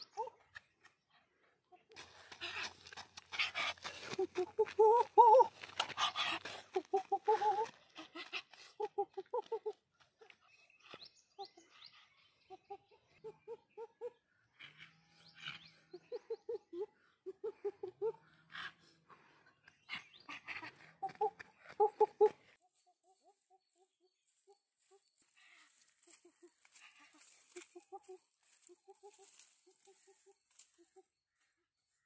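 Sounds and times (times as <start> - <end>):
chickens clucking: 1.8 - 18.3, 19.7 - 31.6.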